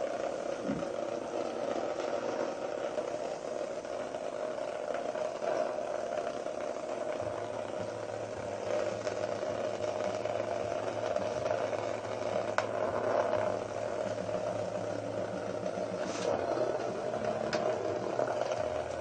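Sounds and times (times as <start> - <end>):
vibrating toys buzzing and rattling: 0.0 - 19.0.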